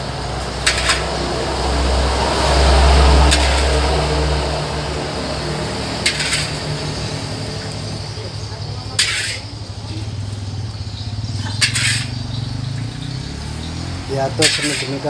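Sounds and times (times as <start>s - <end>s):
low rumble: 0.0s - 12.9s.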